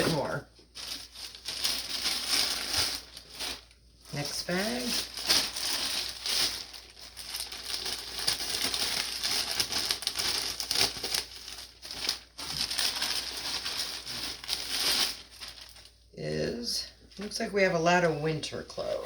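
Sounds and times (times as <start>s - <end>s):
plastic bag crinkling: 0.0s - 16.1s.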